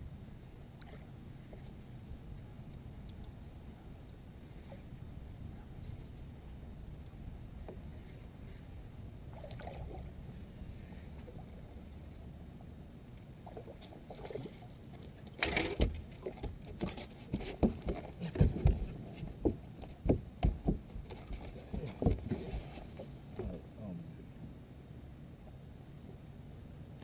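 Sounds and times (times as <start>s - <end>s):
quiet low rumble: 0.0s - 27.0s.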